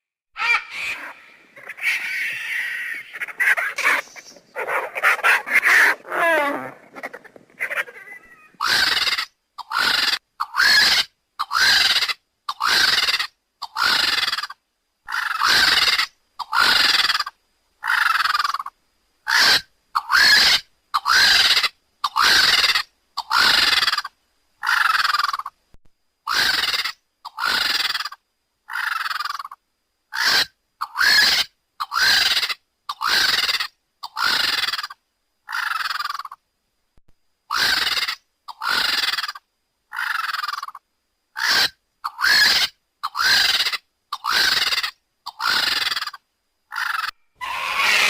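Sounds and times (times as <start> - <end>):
vulture harsh raspy calls: 0.4 - 25.6, 26.2 - 36.4, 37.5 - 48.0.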